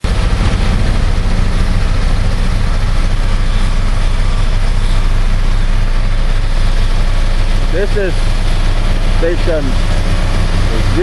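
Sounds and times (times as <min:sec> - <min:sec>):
diesel machinery engine drone: 0:00.0 - 0:11.0.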